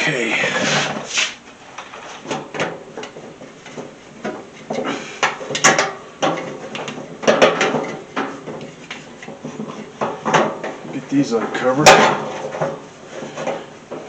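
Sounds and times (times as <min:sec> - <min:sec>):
knocks and rattles of handling: 0:00.0 - 0:14.0.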